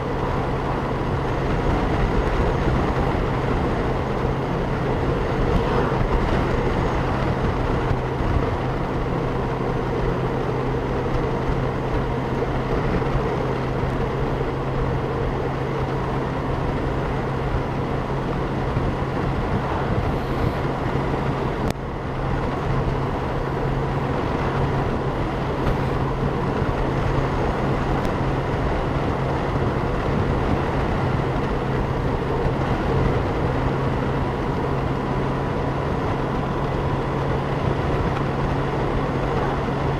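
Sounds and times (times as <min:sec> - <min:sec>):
motorcycle engine hum: 0:00.0 - 0:39.9
road noise: 0:00.0 - 0:39.9
wind rush: 0:00.0 - 0:39.9.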